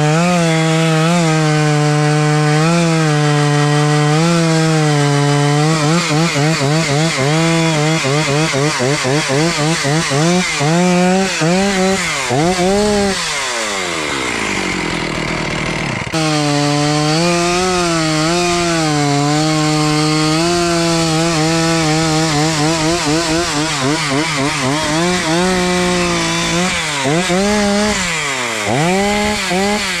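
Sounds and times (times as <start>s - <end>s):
chainsaw cutting log: 0.0s - 30.0s.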